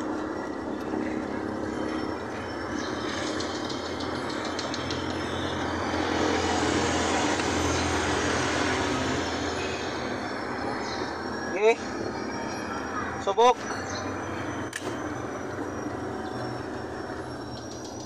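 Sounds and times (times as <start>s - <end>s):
highway traffic rushing: 0.0s - 18.0s.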